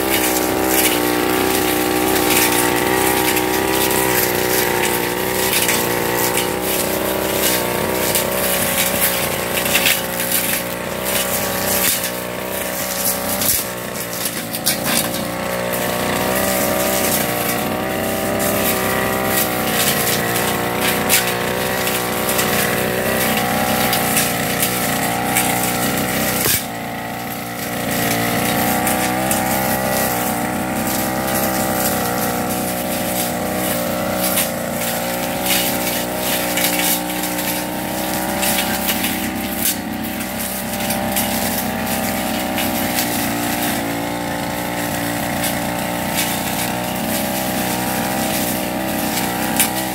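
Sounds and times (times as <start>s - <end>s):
brush cutter engine at full throttle: 0.0s - 49.9s.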